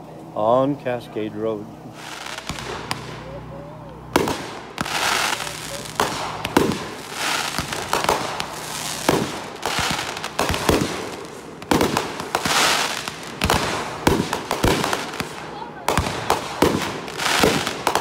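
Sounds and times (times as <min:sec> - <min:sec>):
fireworks crackling and hissing: 0:00.0 - 0:18.0
fireworks bangs: 0:01.8 - 0:18.0.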